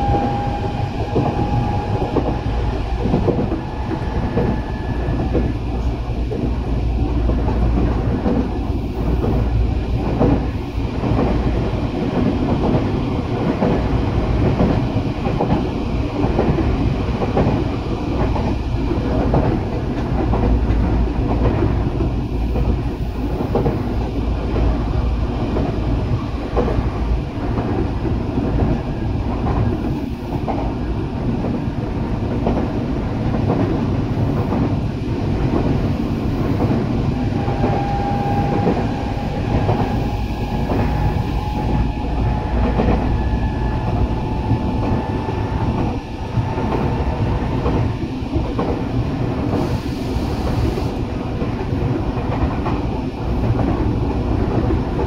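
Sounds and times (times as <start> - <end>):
rail joints clickety-clack: 0.0 - 55.0.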